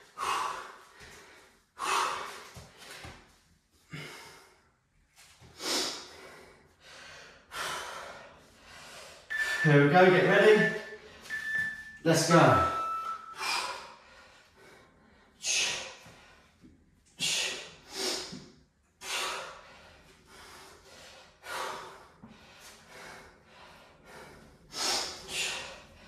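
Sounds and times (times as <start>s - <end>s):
man breathing hard: 0.0s - 9.7s, 12.3s - 26.0s.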